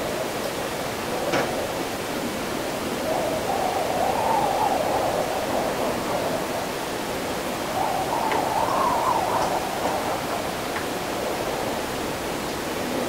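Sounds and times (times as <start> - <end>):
steady rushing hiss: 0.0 - 13.0
wind howling in gusts: 0.0 - 13.0.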